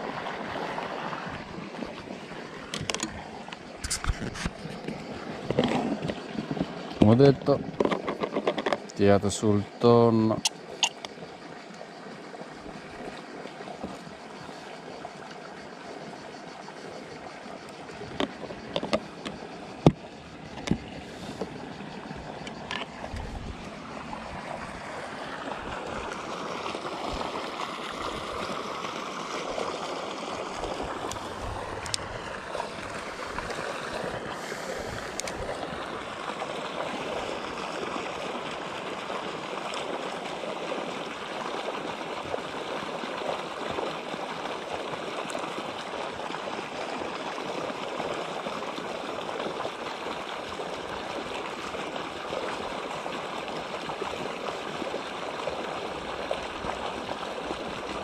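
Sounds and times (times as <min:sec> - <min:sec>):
water pouring into pond: 0:00.0 - 0:58.0.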